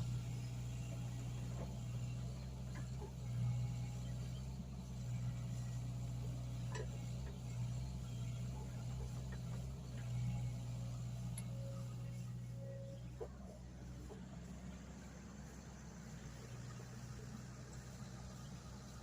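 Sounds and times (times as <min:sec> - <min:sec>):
excavator engine humming: 0:00.0 - 0:19.0.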